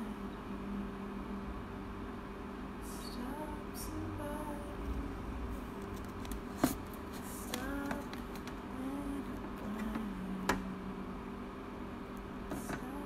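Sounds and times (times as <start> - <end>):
projector cooling fan humming: 0.0 - 13.0.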